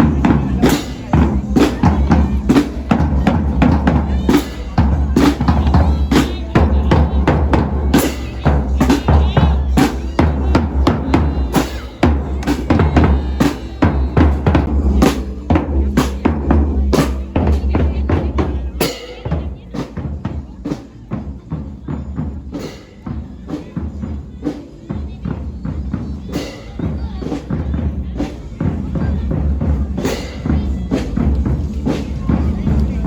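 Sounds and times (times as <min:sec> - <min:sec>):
fast loud drumming: 0:00.0 - 0:33.0.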